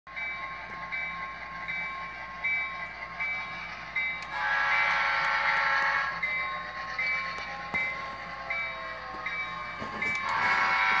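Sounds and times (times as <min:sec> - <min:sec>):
model train running: 0:00.1 - 0:11.0
pulsing ringing tone: 0:00.1 - 0:11.0.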